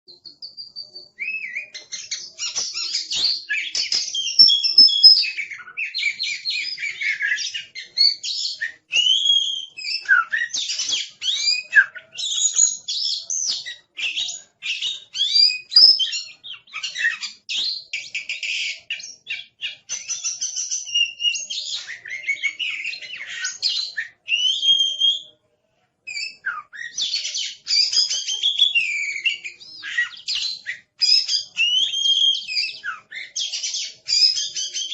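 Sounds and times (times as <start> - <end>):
bird singing whistles and trills: 0.1 - 25.3, 26.1 - 34.9.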